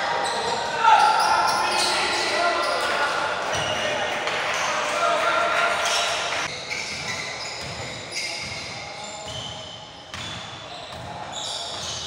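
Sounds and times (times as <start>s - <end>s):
sneaker squeaks: 0.0s - 4.7s, 5.8s - 12.0s.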